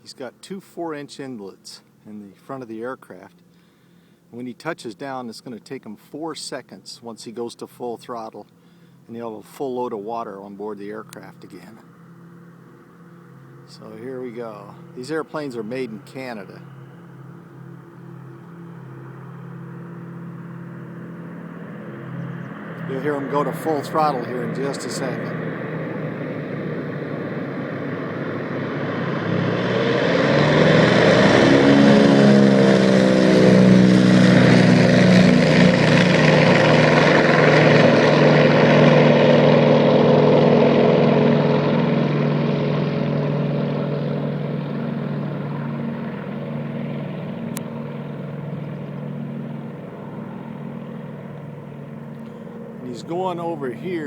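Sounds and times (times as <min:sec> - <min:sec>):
aircraft engine and propeller: 0:00.0 - 0:54.0.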